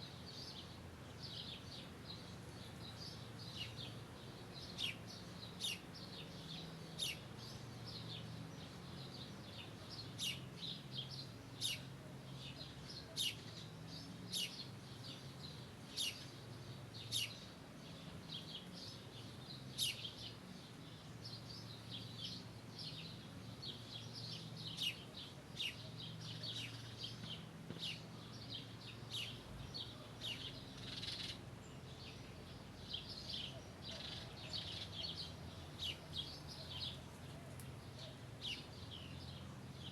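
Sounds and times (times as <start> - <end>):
birds chirping: 0.0 - 39.9
faint low background hum: 0.0 - 39.9.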